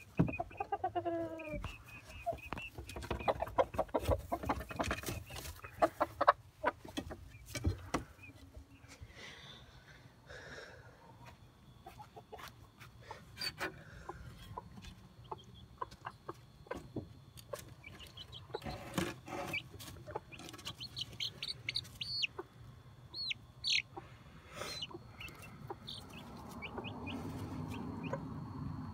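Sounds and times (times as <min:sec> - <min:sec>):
chickens clucking and squawking: 0:00.0 - 0:28.9.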